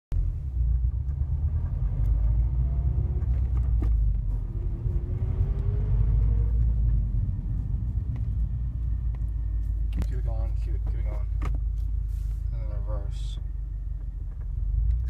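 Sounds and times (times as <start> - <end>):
car engine low rumble: 0.1 - 15.0.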